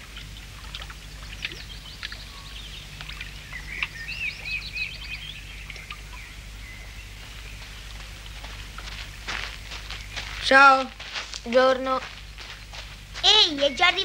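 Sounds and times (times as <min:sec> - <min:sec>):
birds chirping and twittering: 0:00.0 - 0:14.0
steady low hum: 0:00.0 - 0:14.0.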